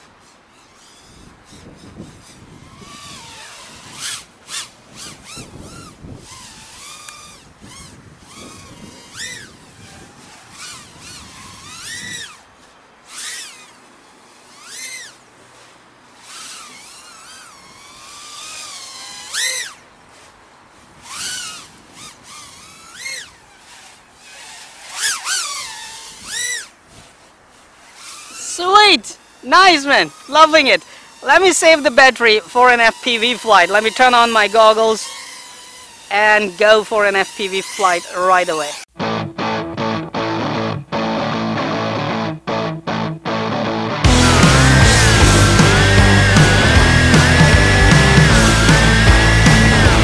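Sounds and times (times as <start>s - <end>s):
drone motors whining: 0.0s - 38.8s, 44.0s - 50.0s.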